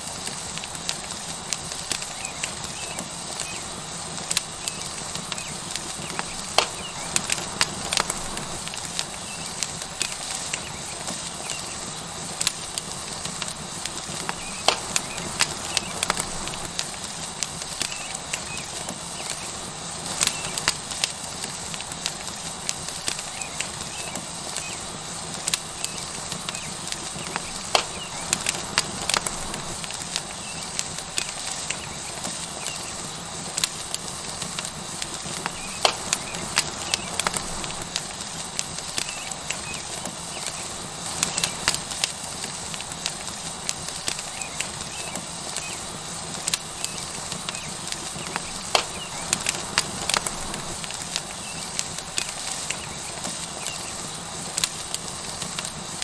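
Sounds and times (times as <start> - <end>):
fire crackles and pops: 0.0 - 56.0
steak sizzling: 0.0 - 56.0.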